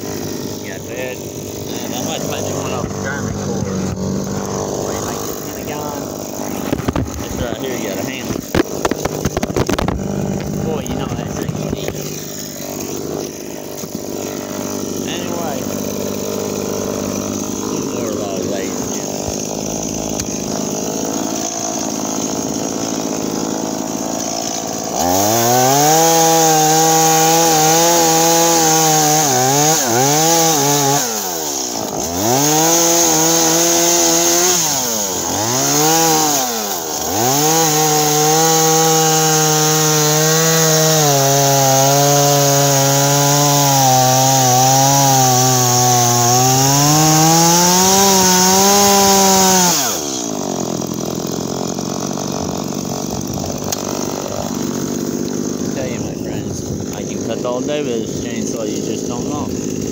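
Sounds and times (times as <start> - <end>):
chainsaw cutting a log: 0.0 - 59.9.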